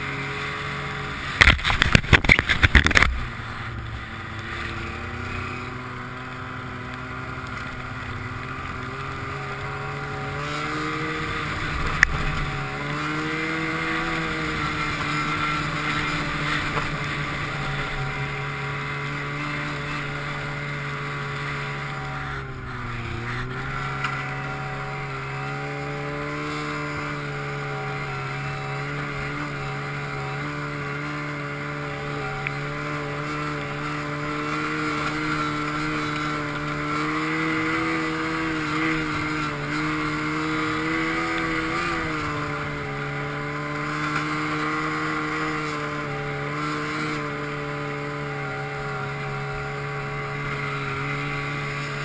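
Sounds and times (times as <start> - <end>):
snowmobile engine running: 0.0 - 52.0.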